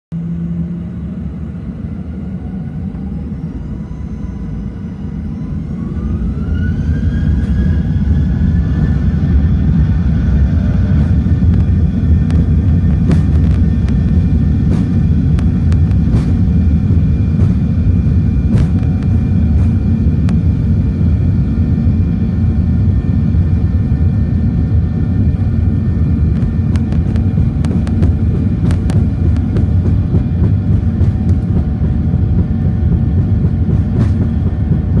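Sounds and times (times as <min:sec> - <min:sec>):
jet engine noise and rumble: 0:00.1 - 0:35.0
jet engines whining: 0:00.2 - 0:35.0.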